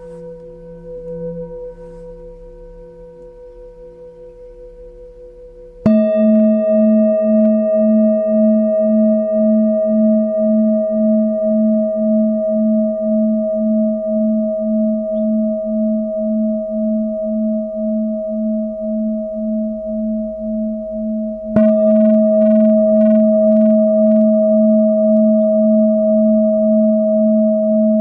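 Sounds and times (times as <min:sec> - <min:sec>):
singing bowl ringing: 0:00.0 - 0:28.0.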